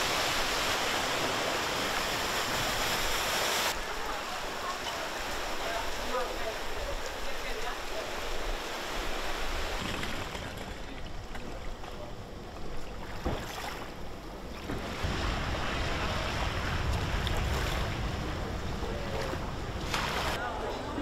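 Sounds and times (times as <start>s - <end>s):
waves rushing: 0.0s - 11.0s, 13.0s - 20.4s.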